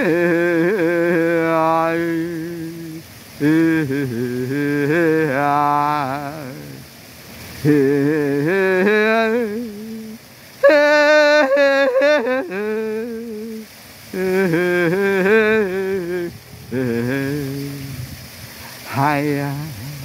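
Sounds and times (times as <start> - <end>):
person humming chant: 0.0 - 7.0, 7.6 - 20.0.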